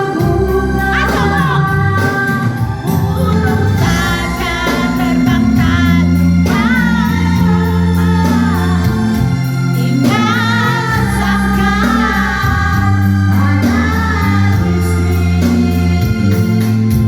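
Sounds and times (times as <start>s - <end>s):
person singing with vibrato: 0.0s - 17.0s
steady bass: 0.0s - 17.0s.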